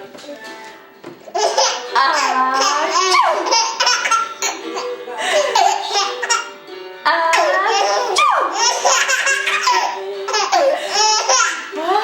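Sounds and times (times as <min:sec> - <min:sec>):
baby laughing: 0:01.3 - 0:06.6, 0:07.3 - 0:12.0.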